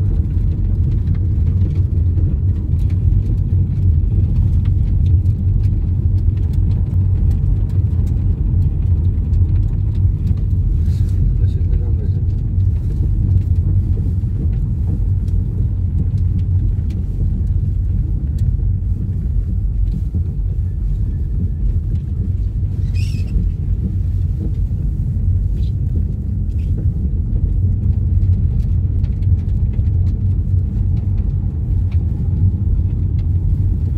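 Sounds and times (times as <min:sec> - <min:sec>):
car road noise on gravel: 0:00.0 - 0:33.9.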